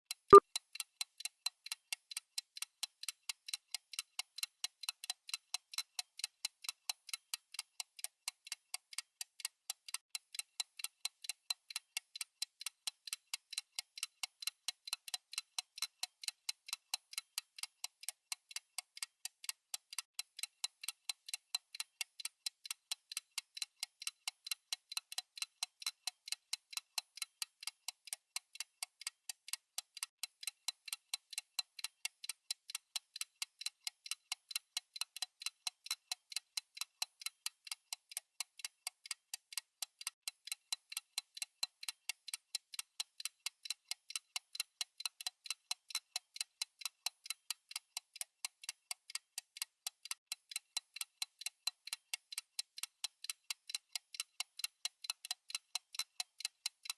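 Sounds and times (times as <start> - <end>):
fast clock ticking: 0.1 - 56.9.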